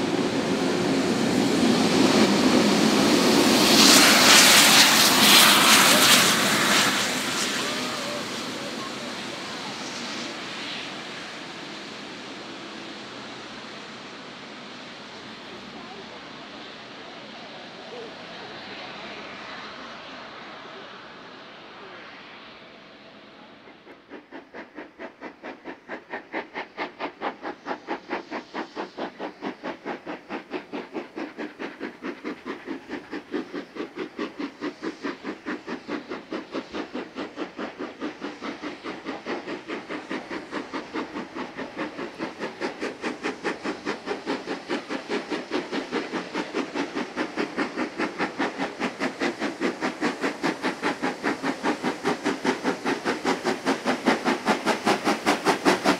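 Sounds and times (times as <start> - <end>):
steam hiss: 0.0 - 55.9
steam locomotive exhaust chuffs: 0.0 - 55.9.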